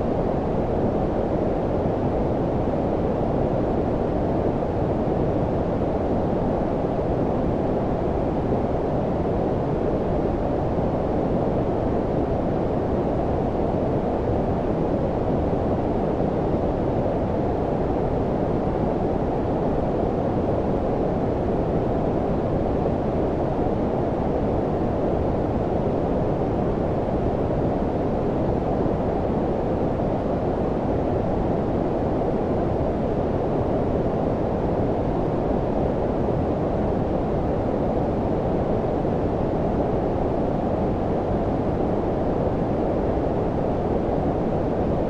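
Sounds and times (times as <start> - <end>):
low dull white noise hiss: 0.0 - 45.0.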